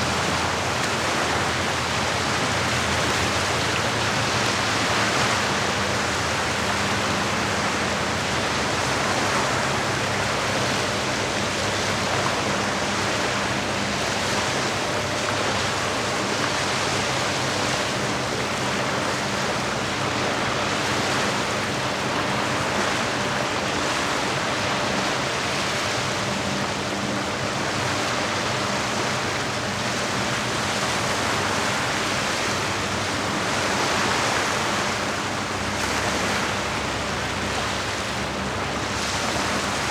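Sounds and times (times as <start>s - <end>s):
lake water washing: 0.0s - 39.9s.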